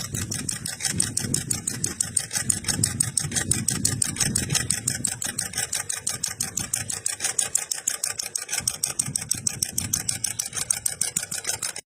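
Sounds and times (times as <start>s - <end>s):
small model engine running: 0.0s - 11.9s.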